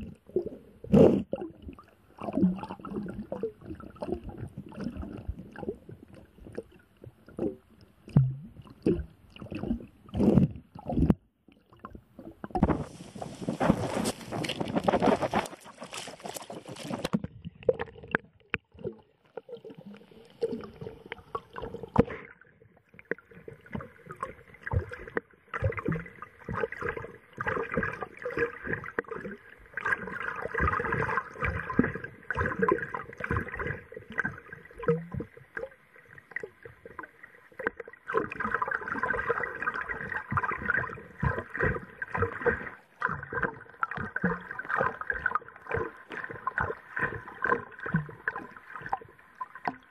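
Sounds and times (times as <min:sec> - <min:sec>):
muffled underwater water gurgling: 0:00.0 - 0:49.9
underwater knocks and crackles: 0:00.0 - 0:49.9.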